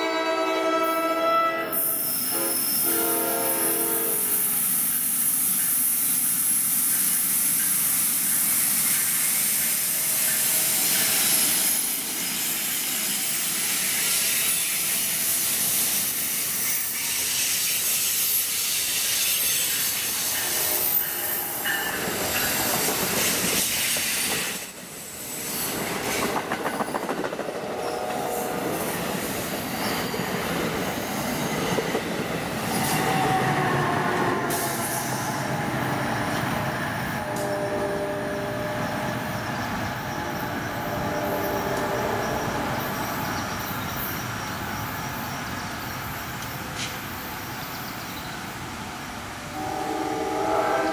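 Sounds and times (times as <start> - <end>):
train wheels rushing on rail: 1.6 - 50.9.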